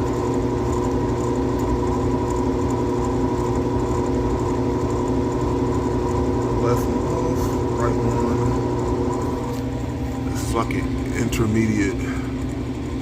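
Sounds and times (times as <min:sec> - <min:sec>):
furnace motor humming: 0:00.0 - 0:13.0.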